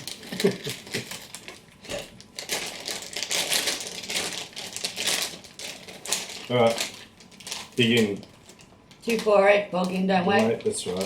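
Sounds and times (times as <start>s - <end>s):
plastic snack packet crinkling: 0.0s - 11.0s.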